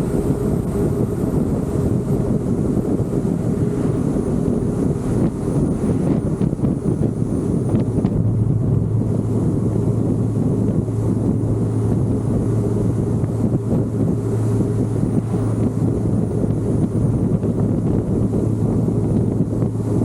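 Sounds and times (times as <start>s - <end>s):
car engine droning steadily: 0.0s - 20.0s
wind buffeting microphone: 0.0s - 20.0s.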